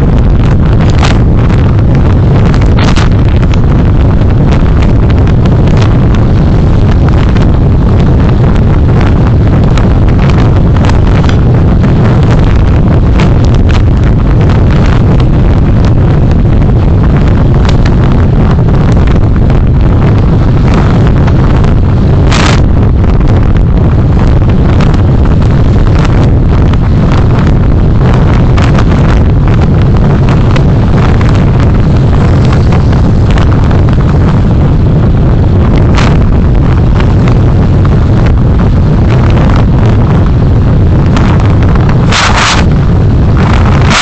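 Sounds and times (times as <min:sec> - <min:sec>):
car road and wind noise: 0:00.0 - 0:44.0.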